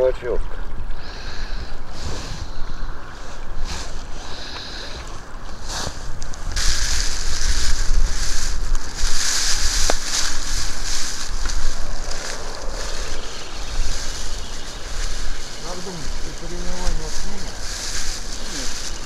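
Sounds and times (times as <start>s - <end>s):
wind hiss: 0.0s - 19.0s
wind rumbling on microphone: 0.0s - 19.0s.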